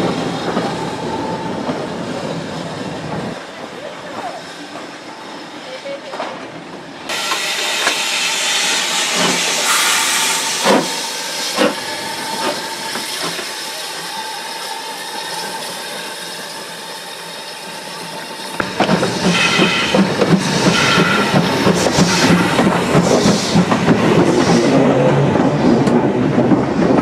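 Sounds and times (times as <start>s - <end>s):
train: 0.0s - 27.0s.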